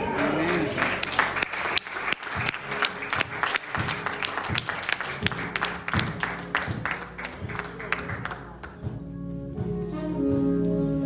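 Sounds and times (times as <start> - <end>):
congregation clapping: 0.0 - 8.9
instrumental church music: 0.0 - 11.0.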